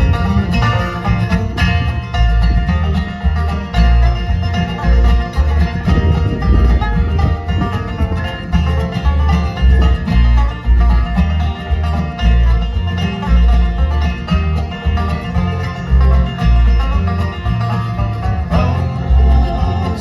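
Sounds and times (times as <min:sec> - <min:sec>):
banjo picking: 0:00.0 - 0:20.0
bluegrass band playing: 0:00.0 - 0:20.0.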